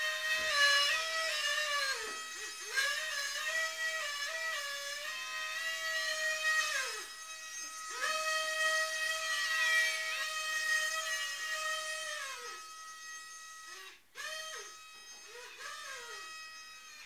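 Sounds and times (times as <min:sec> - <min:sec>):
small motors and propellers whining: 0:00.0 - 0:17.0.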